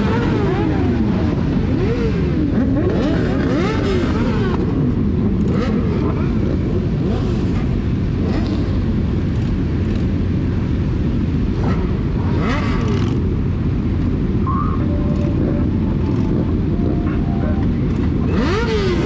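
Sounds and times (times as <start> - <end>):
motorcycles idling: 0.0 - 19.0.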